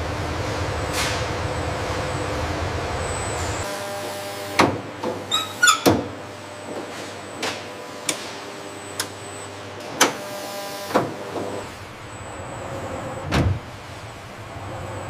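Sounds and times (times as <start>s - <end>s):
faint machinery hum: 0.0s - 15.0s.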